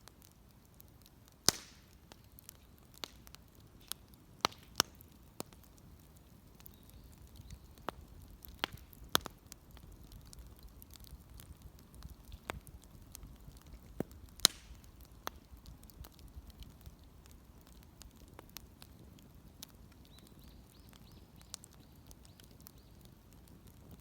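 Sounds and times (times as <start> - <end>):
bonfire crackling: 0.0 - 24.0
fire popping: 0.0 - 24.0.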